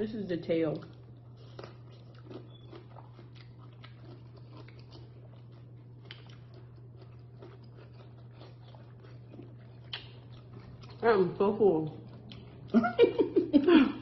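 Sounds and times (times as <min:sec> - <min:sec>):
steady low hum: 0:00.0 - 0:14.0
close chewing with mouth clicks: 0:00.5 - 0:13.6.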